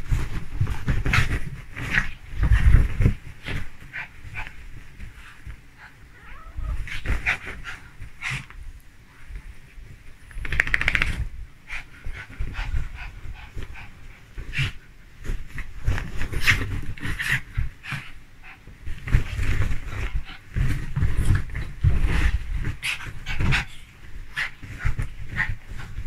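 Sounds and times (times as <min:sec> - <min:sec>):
dog breathing and noises: 0:00.0 - 0:26.0.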